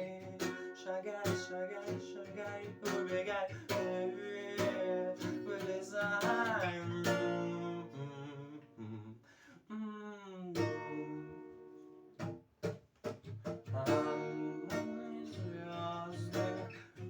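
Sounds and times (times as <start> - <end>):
acoustic guitar strumming: 0.0 - 8.6, 10.6 - 17.0
person singing: 0.0 - 11.6, 13.7 - 17.0.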